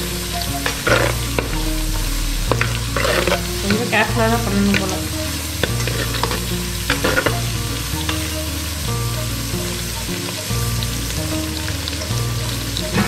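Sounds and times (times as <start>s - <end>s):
food sizzling in hot oil: 0.0s - 13.0s
low background music: 0.0s - 13.0s.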